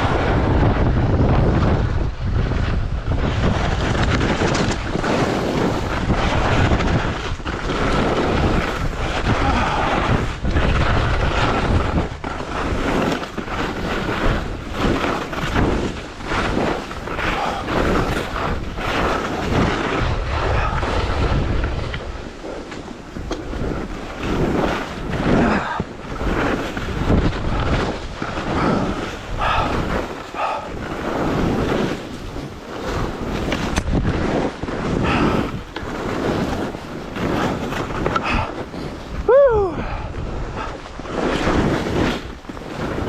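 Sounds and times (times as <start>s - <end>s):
skis scraping over snow: 0.0s - 43.0s
wind buffeting microphone: 0.0s - 43.0s.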